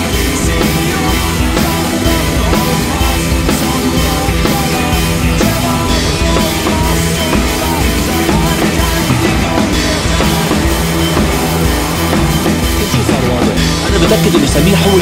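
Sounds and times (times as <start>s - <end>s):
rock music with drum beat: 0.0s - 15.0s.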